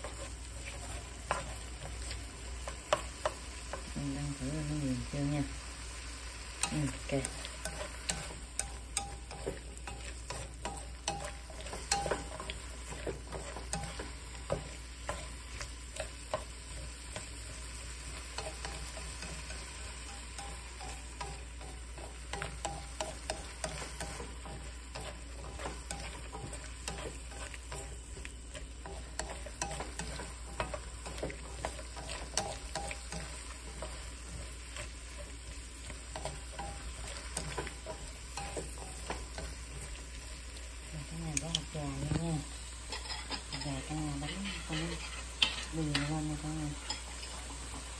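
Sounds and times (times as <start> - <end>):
chopsticks tapping and scraping pan: 0.0 - 47.9
vegetables sizzling in oil: 0.0 - 47.9.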